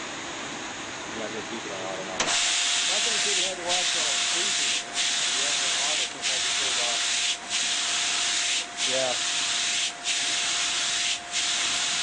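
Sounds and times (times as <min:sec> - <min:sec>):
spray jets hissing: 0:02.3 - 0:12.0.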